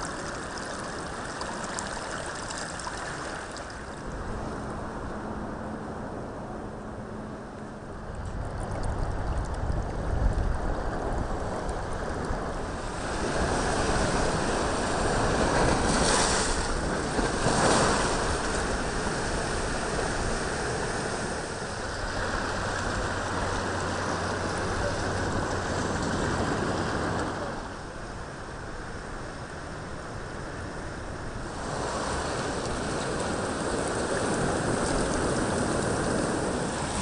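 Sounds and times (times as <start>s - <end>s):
ocean surf washing into rocks: 0.0s - 4.9s, 10.1s - 29.3s, 30.5s - 37.0s.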